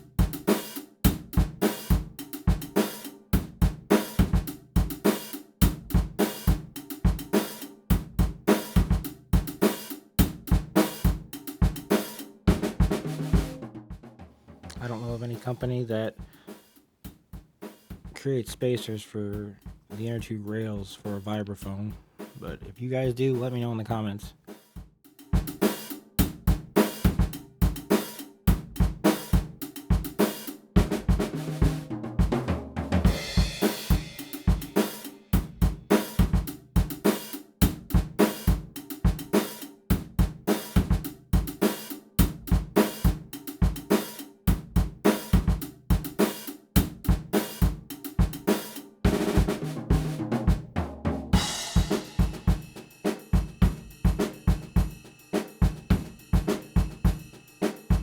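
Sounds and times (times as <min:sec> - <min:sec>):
drum kit beat music: 0:00.0 - 0:58.0.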